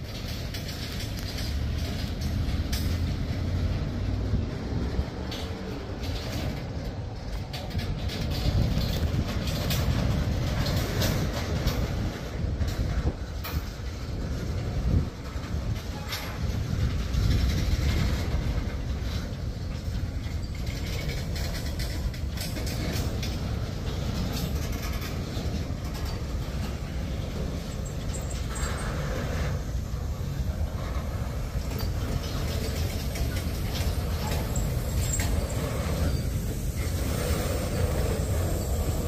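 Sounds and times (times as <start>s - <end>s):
steel wheels rumbling on rail: 0.0s - 39.0s
wheels and couplings clicking: 0.0s - 39.0s.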